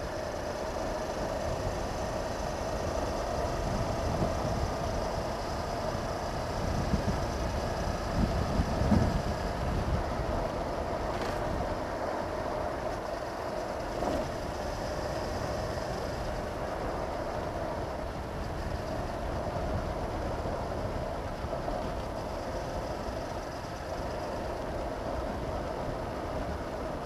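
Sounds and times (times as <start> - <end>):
motorcycle engine cruising: 0.0 - 27.0
wind buffeting on microphone: 0.0 - 27.0.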